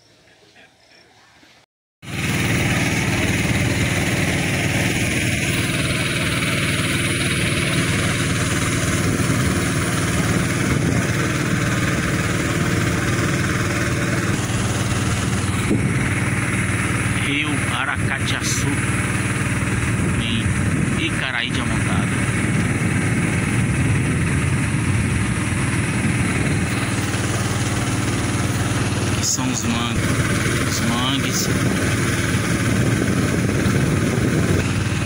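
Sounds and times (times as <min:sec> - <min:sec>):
small boat motor running: 0:02.0 - 0:35.0.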